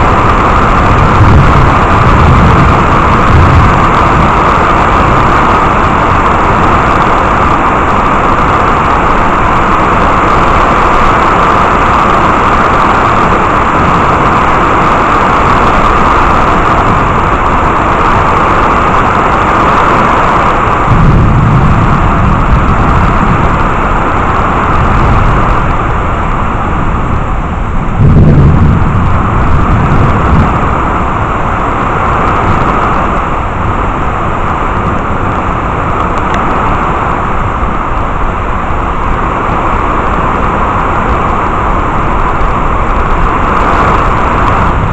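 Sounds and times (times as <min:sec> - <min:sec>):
heavy rain falling: 0:00.0 - 0:44.9
thunder rumbling: 0:00.0 - 0:44.9.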